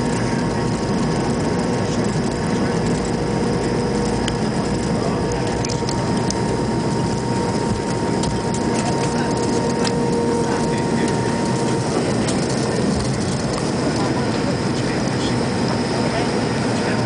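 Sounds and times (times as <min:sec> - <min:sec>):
jet engines and airflow: 0:00.0 - 0:17.0
steady whine: 0:00.0 - 0:17.0.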